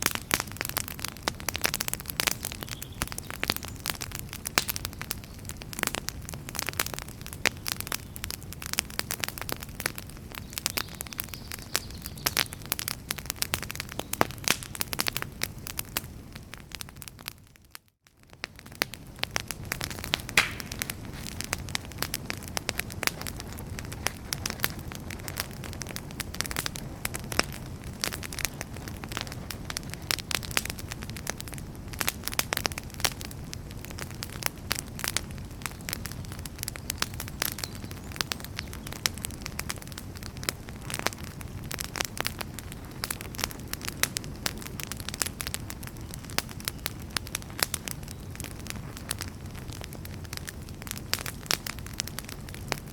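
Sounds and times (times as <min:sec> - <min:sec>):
low rumble of flames: 0:00.0 - 0:52.9
wood fire crackling and popping: 0:00.0 - 0:52.9.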